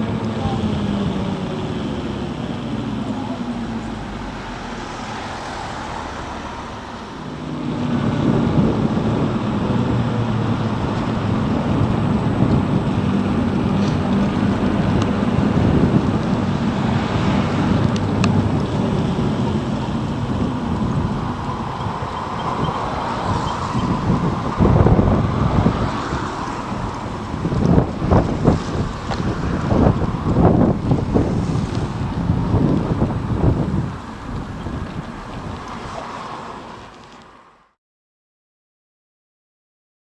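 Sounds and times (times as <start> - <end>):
wind rush: 0.0 - 37.7
motorcycle road noise: 0.0 - 37.8.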